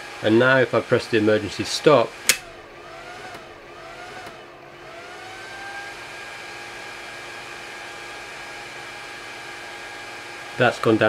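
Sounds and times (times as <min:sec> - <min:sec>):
cooling fan whirring: 0:00.0 - 0:11.0.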